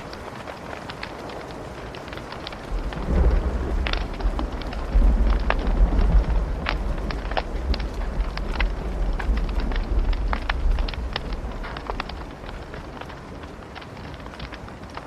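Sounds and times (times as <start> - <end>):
thunder rumbling: 0.0 - 15.0
wood fire crackling: 0.0 - 15.0.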